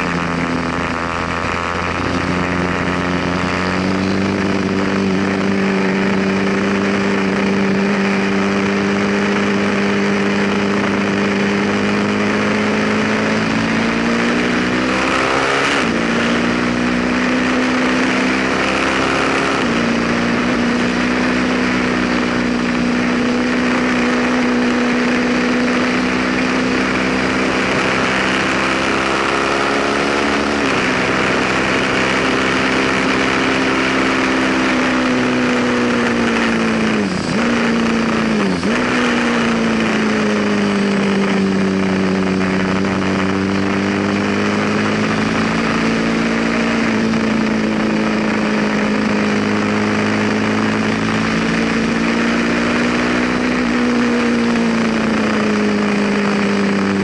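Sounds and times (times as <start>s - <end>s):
motorcycle engine running hard: 0.0s - 57.0s
rush of wind: 0.0s - 57.0s.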